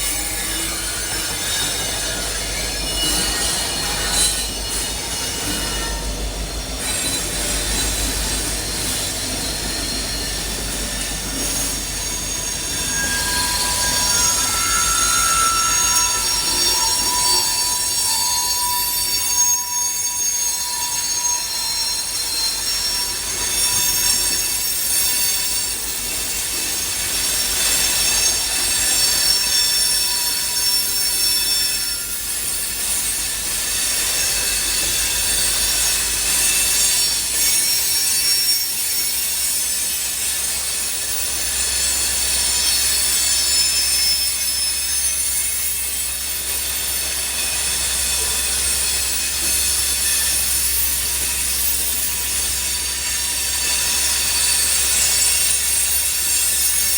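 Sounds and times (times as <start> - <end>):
rumble of moving train cars: 0.0 - 56.9
steel wheels screeching on rails: 0.0 - 56.9.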